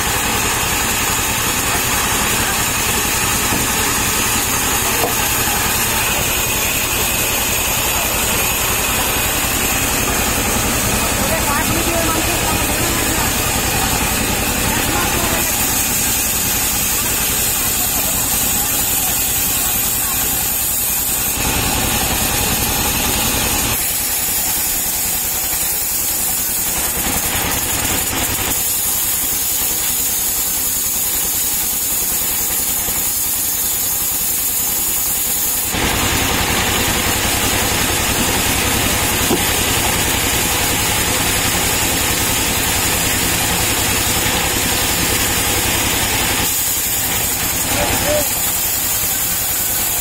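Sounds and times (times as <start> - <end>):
band saw cutting log: 0.0 - 50.0.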